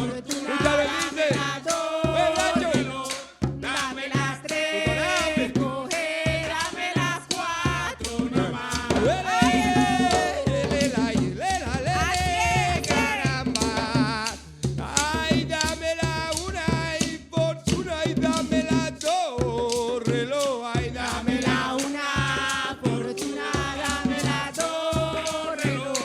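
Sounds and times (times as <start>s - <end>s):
hand drums beating: 0.0s - 26.0s.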